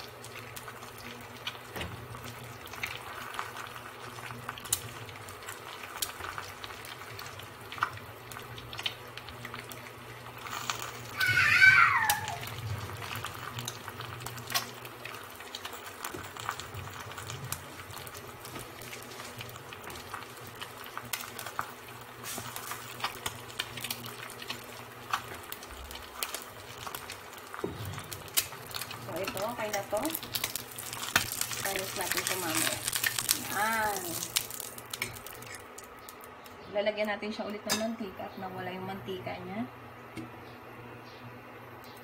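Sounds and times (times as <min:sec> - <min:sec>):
egg sizzling in oil: 0:00.0 - 0:36.6.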